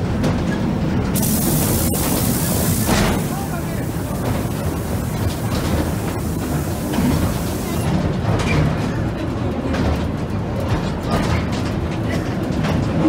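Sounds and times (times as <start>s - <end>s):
steel wheels rumbling on rail: 0.0s - 13.0s.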